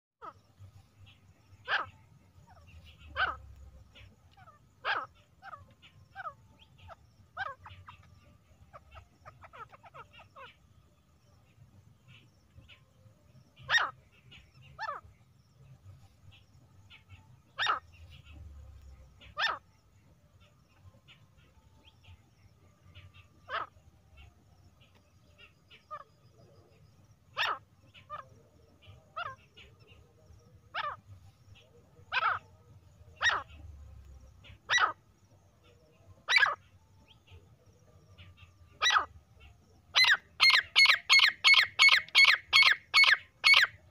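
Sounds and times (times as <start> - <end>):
francolin bark-like calls: 0.2 - 43.9
low background rumble: 0.3 - 40.4.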